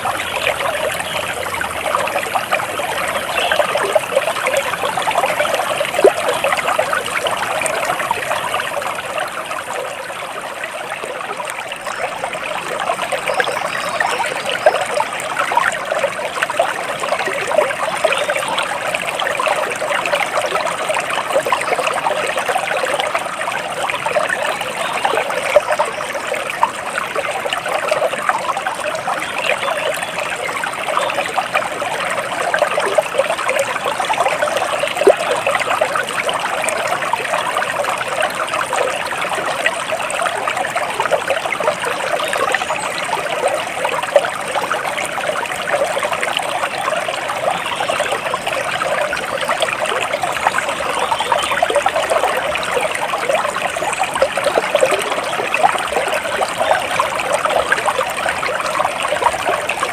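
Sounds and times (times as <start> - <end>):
stream trickling and babbling: 0.0 - 59.9.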